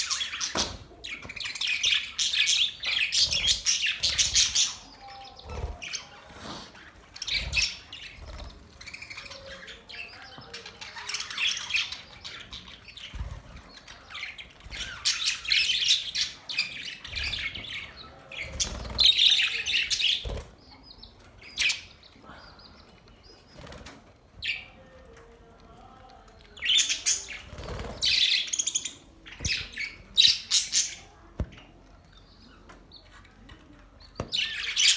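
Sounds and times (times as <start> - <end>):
budgerigars chattering and chirping: 0.0 - 23.8, 26.5 - 34.9.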